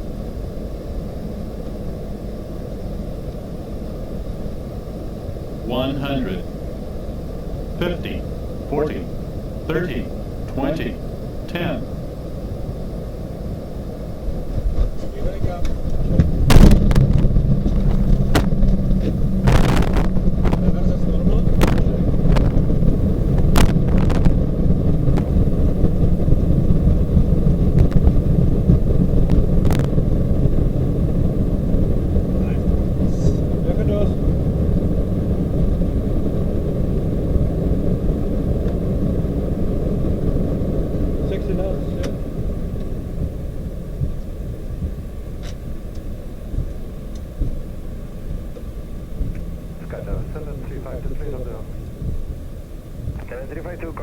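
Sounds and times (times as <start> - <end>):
jet engines in reverse thrust: 0.0 - 54.0
low steady aircraft rumble: 0.0 - 54.0.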